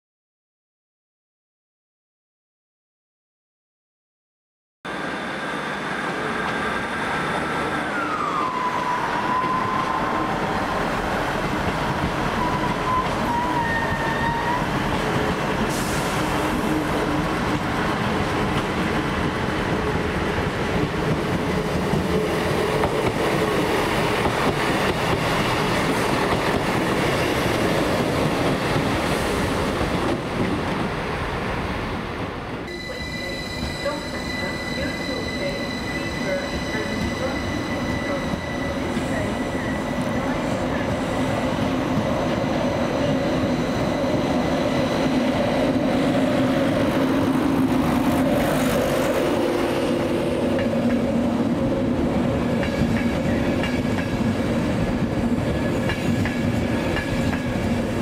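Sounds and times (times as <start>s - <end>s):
train wheels rumbling on rail: 5.8s - 58.0s.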